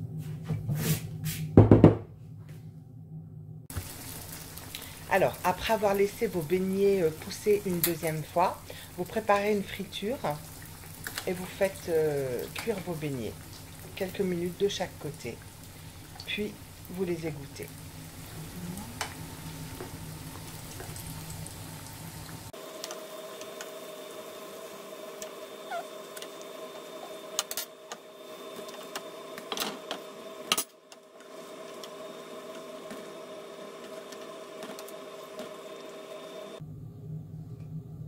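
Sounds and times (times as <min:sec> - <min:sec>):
faint steady hum: 0:02.2 - 0:38.0
dough frying in oil: 0:03.7 - 0:36.6.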